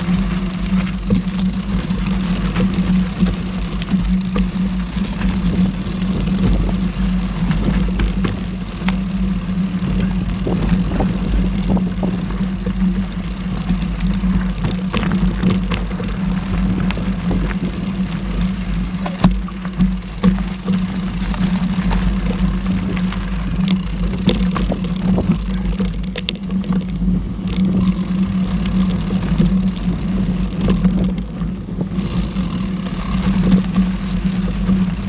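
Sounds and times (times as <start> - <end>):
bike rattling clicks and knocks: 0.0 - 35.0
bike tyres humming on trail: 0.0 - 35.0.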